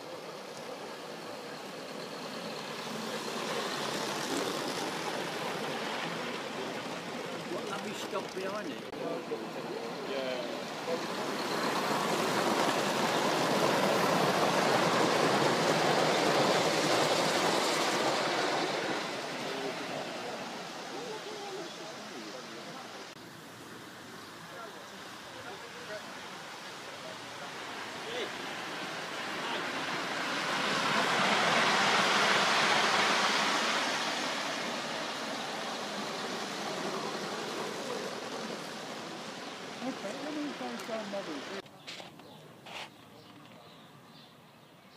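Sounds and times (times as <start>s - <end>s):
model train wheels rolling: 0.0s - 23.0s, 23.6s - 43.6s.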